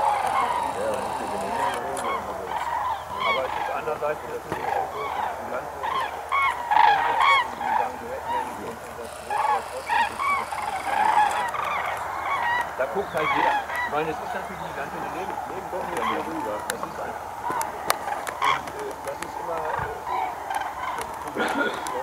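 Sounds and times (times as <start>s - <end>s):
flock of cranes calling: 0.0s - 22.0s.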